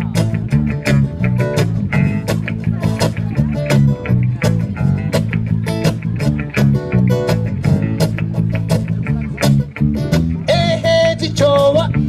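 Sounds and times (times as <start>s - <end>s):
reggae band playing instrumental: 0.0s - 12.0s.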